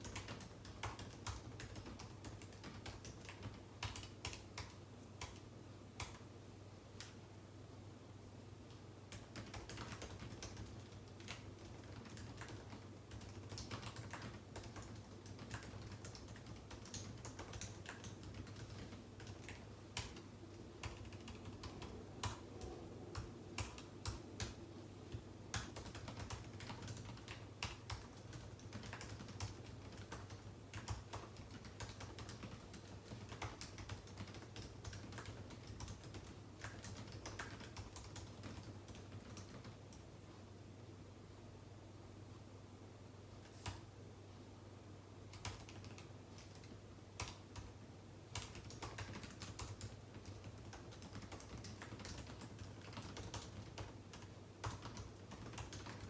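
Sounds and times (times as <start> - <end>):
typing on keyboard: 0.0 - 5.4, 8.7 - 40.1, 45.3 - 56.0
low steady hum: 0.0 - 56.0.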